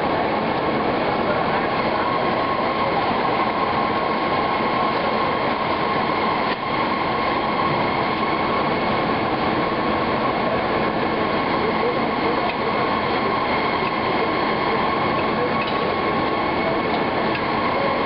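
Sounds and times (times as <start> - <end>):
factory machinery running: 0.0 - 18.0.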